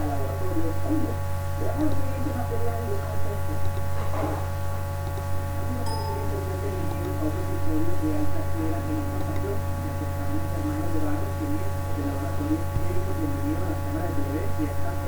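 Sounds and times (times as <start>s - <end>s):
electrical hum and buzz: 0.0s - 15.0s.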